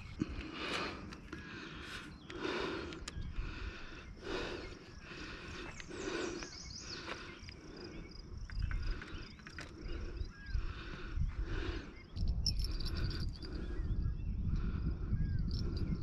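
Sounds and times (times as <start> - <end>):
wind rumbling on microphone: 0.0 - 16.0
bird chirps: 0.9 - 14.5.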